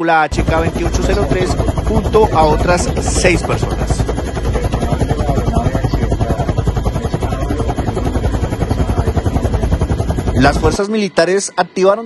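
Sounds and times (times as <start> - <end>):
helicopter rotor and engine: 0.3 - 11.3.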